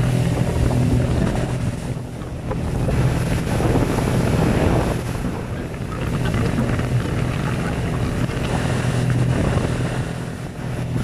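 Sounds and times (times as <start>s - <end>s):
boat motor running: 0.0s - 11.0s
water rushing past hull: 0.0s - 11.0s
wind buffeting microphone: 0.0s - 11.0s.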